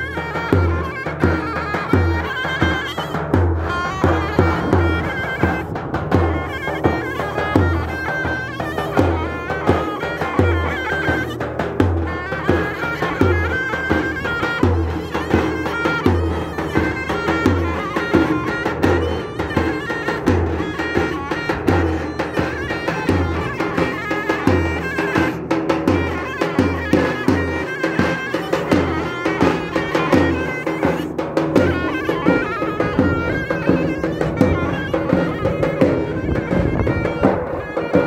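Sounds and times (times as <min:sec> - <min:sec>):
reedy shawm melody: 0:00.0 - 0:38.0.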